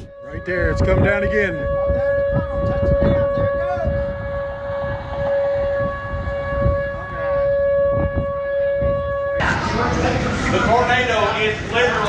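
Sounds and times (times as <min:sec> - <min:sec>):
low rumbling noise: 0:00.0 - 0:12.0
warning siren steady tone: 0:00.0 - 0:12.0.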